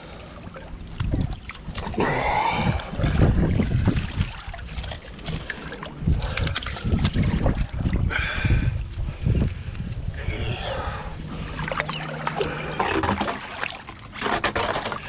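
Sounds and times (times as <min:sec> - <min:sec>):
water sloshing and gurgling: 0:00.0 - 0:15.0
wind buffeting microphone: 0:00.6 - 0:13.4.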